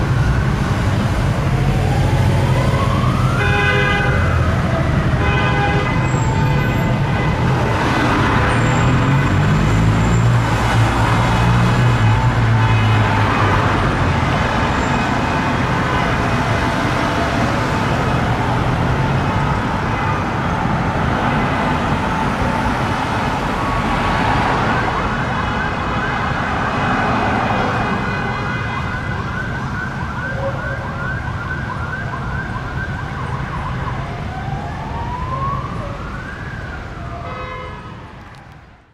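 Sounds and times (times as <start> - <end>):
police siren: 0.0 - 38.9
street traffic: 0.0 - 38.9.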